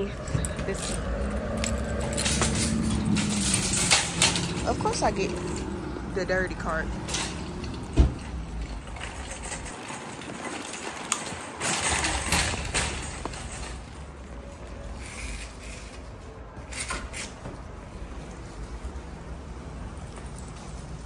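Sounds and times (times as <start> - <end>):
shopping cart rolling and rattling: 0.0 - 21.0.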